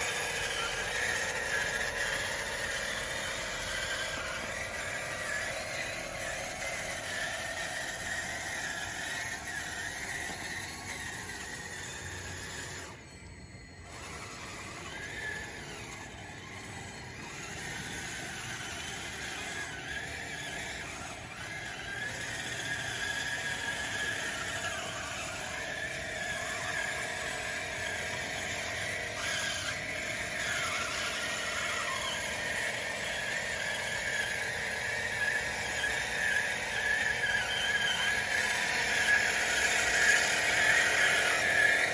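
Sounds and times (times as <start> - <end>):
electric motors whining: 0.0 - 41.9.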